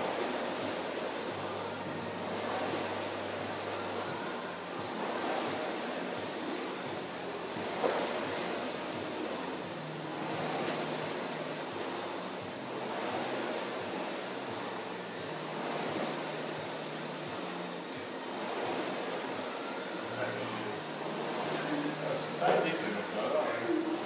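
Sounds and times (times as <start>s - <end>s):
rowing machine fan whooshing: 0.0s - 24.0s.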